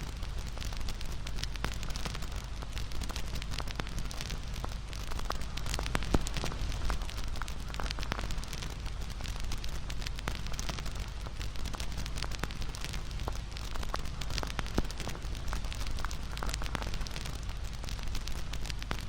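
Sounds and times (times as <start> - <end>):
low rumble of flames: 0.0 - 19.0
wood fire snaps and pops: 0.0 - 19.0.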